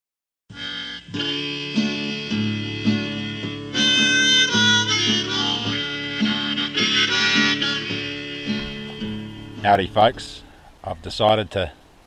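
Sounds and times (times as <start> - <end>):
harmonica playing: 0.5 - 10.6
plucked guitar: 0.5 - 10.6.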